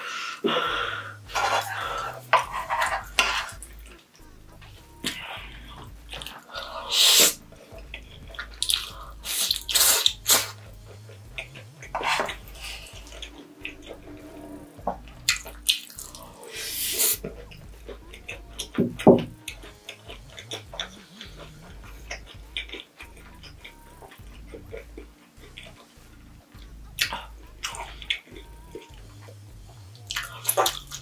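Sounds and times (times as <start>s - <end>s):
slurping and chewing: 0.4s - 4.1s, 4.7s - 31.0s.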